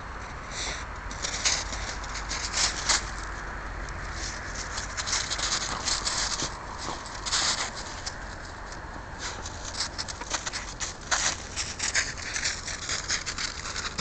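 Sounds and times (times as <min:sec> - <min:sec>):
puppy scuffing and snuffling in snow: 0:00.2 - 0:14.0.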